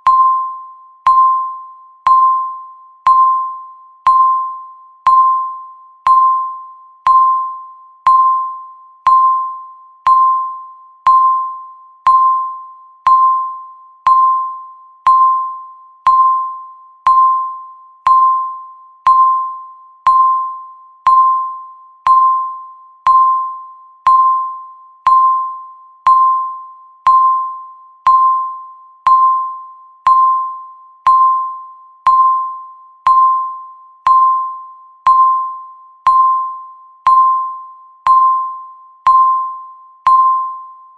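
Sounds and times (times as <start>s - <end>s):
timer electronic beep: 0.0s - 40.9s.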